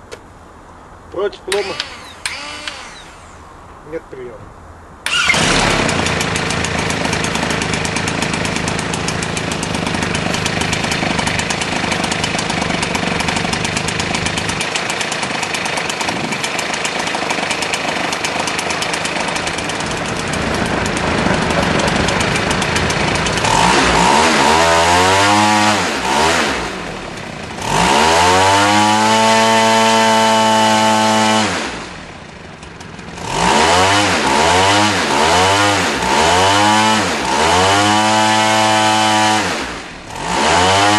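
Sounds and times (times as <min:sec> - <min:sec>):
model aircraft engine revving: 0:01.5 - 0:03.6, 0:05.1 - 0:40.9.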